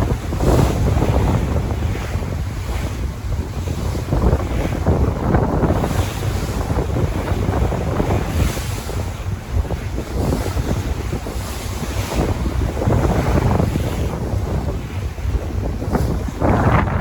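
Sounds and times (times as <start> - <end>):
sea waves washing in: 0.0 - 17.0
wind buffeting the microphone: 0.0 - 17.0.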